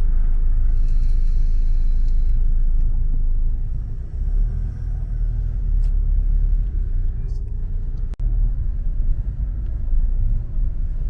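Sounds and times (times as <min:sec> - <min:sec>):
car road rumble from inside: 0:00.0 - 0:11.0.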